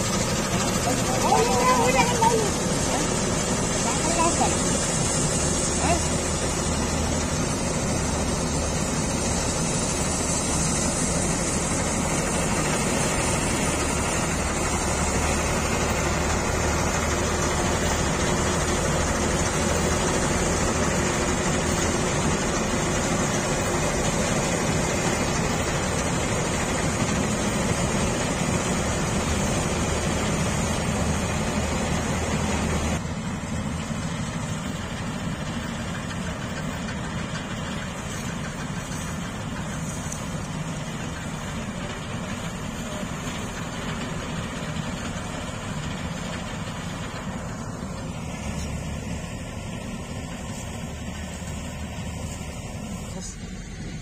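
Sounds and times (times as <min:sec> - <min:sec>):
diesel engine drone: 0:00.0 - 0:54.0
threshing machinery noise: 0:00.0 - 0:54.0.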